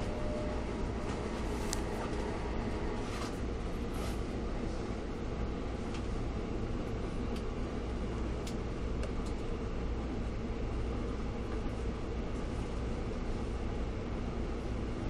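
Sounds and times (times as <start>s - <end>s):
train car interior hum: 0.0s - 15.0s.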